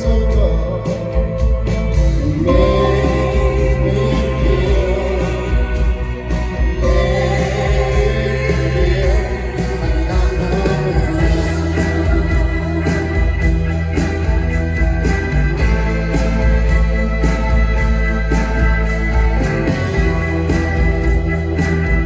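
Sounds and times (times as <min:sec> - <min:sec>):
person singing: 0:00.0 - 0:22.0
rock band playing live: 0:00.0 - 0:22.0.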